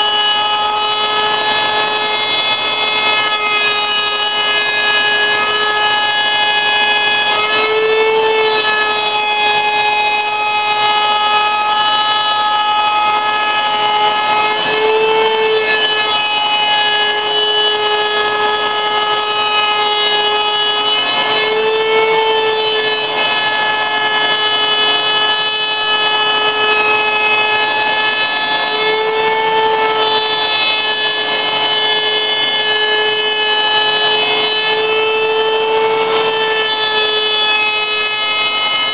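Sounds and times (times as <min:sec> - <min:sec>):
router whining while milling wood: 0:00.0 - 0:38.9.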